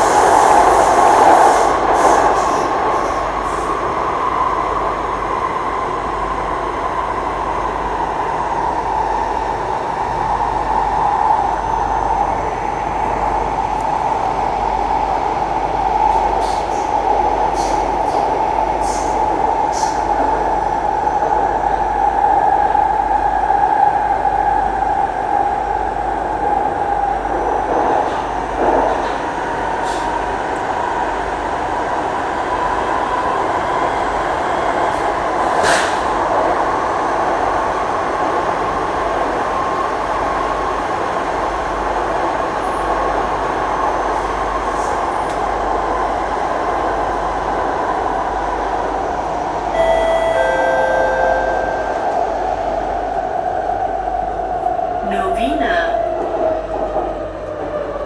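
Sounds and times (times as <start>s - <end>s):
train rumbling through tunnel: 0.0s - 58.0s.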